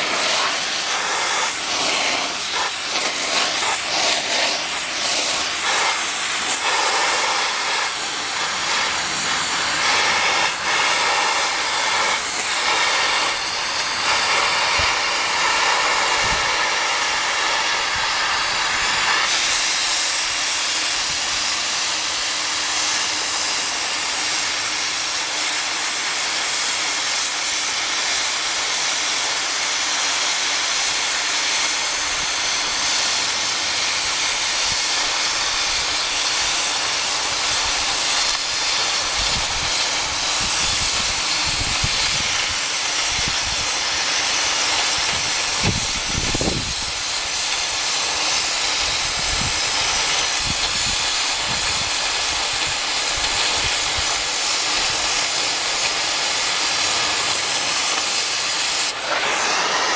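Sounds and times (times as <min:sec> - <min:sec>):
cutting torch hissing: 0:00.0 - 0:59.9.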